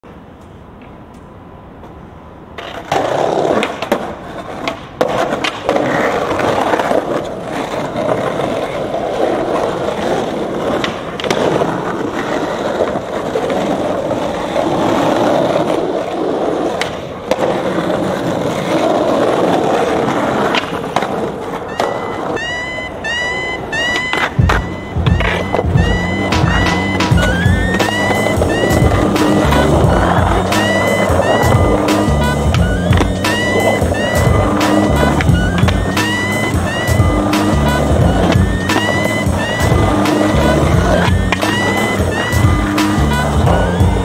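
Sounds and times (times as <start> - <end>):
skateboard wheels rolling on asphalt: 0.0 - 44.0
skateboard wooden clacks: 0.4 - 44.0.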